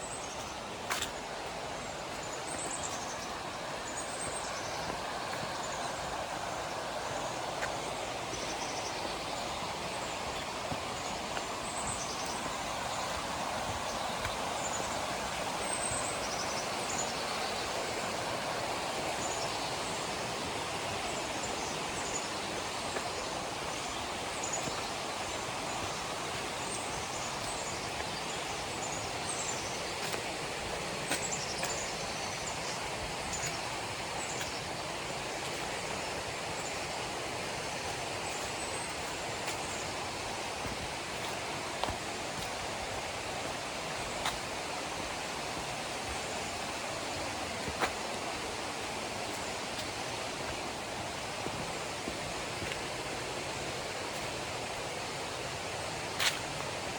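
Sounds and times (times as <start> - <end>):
river water rushing: 0.0 - 56.9.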